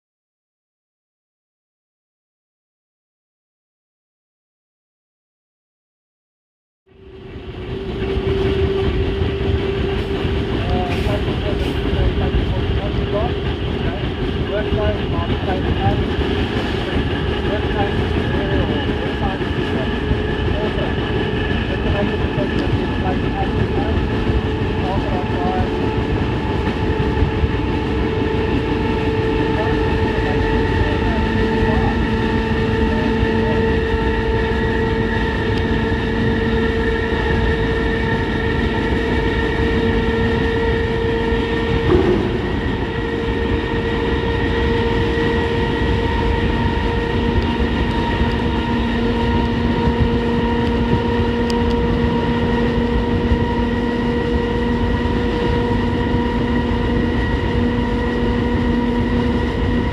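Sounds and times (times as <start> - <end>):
locomotive rumble: 6.9 - 59.9
whining dynamic brake howl: 6.9 - 59.9.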